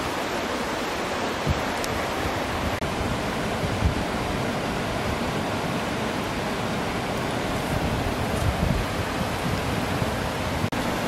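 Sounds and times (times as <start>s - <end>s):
rushing whitewater rapids: 0.0s - 11.0s.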